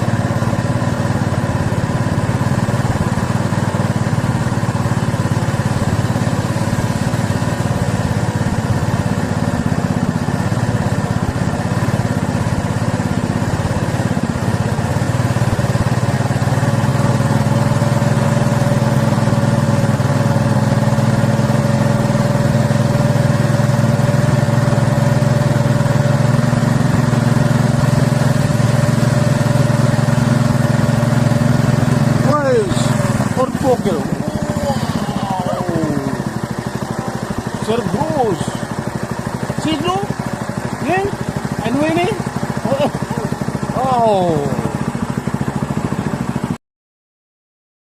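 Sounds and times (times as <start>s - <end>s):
small engine running: 0.0s - 46.6s.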